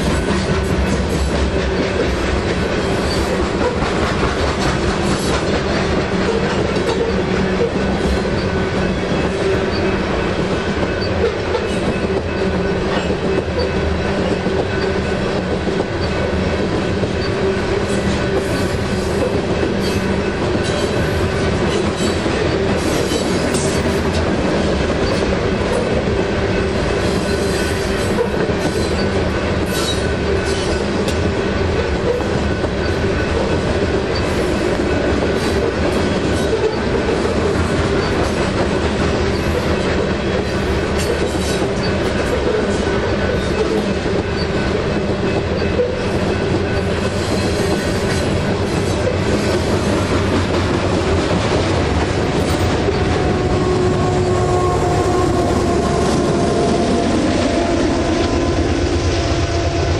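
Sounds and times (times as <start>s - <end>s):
train wheel squeal: 0.0s - 5.6s, 6.2s - 24.2s, 25.0s - 31.2s, 32.0s - 50.1s, 52.1s - 59.9s
wheels clacking over rail joints: 0.0s - 57.6s
freight train rumbling past: 0.0s - 59.9s.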